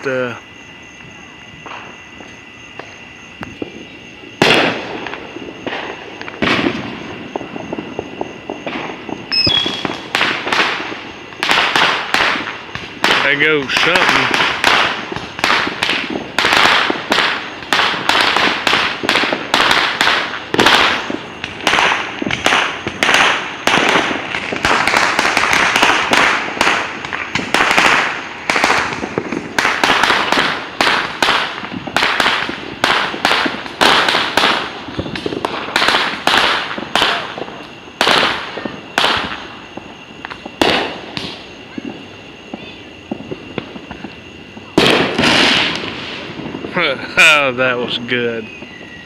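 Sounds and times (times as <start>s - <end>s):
firecrackers banging: 0.0s - 49.0s.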